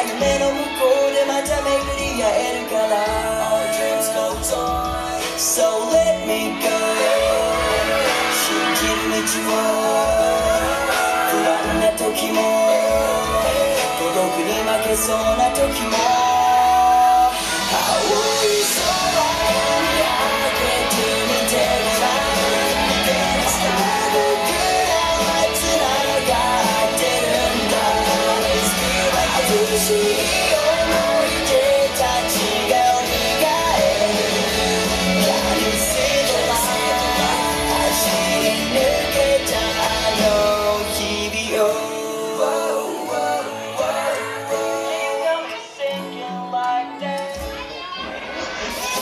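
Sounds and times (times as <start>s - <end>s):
pop rock dance music: 0.0s - 49.0s.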